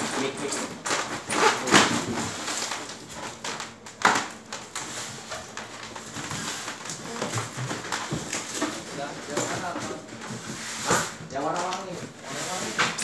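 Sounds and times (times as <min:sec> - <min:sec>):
styrofoam boxes clicking and rustling: 0:00.0 - 0:13.0.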